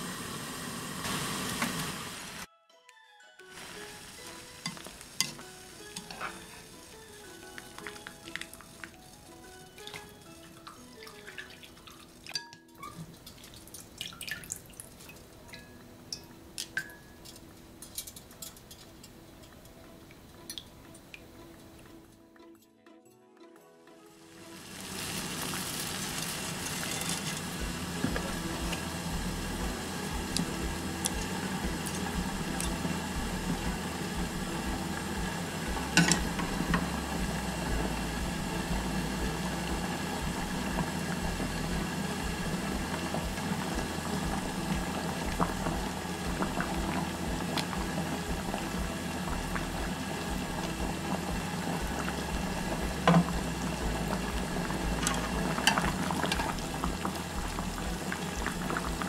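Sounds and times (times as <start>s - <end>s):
water boiling in a pan: 0.0s - 2.5s, 3.5s - 21.8s, 24.2s - 59.0s.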